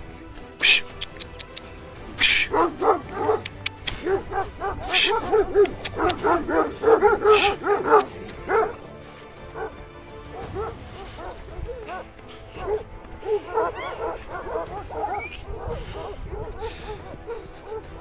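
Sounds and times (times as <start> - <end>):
dogs barking deeply: 0.6 - 18.0.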